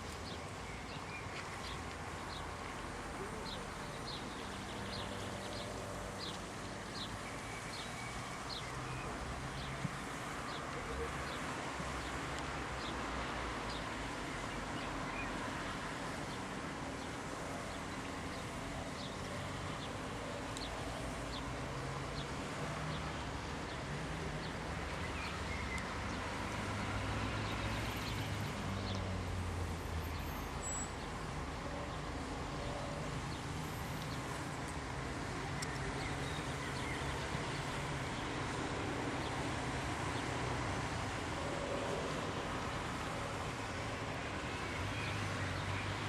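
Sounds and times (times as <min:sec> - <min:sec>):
distant road traffic rumble: 0:00.0 - 0:46.0.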